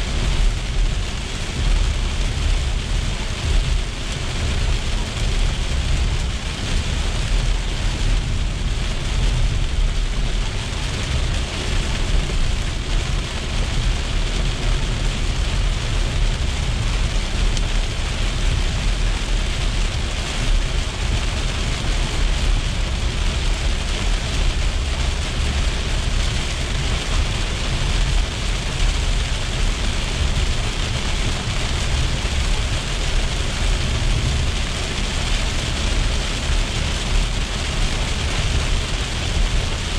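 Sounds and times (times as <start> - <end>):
heavy rain on car roof: 0.0 - 39.9
tyres rumbling on wet road: 0.0 - 39.9.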